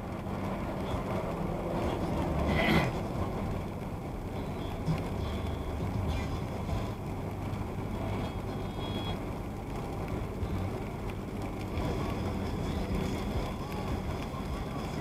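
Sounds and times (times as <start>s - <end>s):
road and engine rumble in vehicle: 0.0s - 15.0s.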